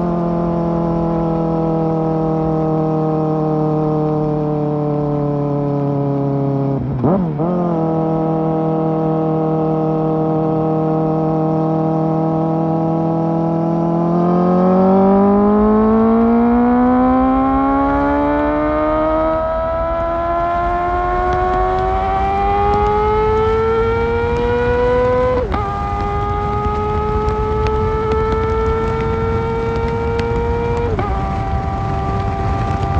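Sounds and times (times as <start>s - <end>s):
motorcycle engine revving up: 0.0s - 32.9s.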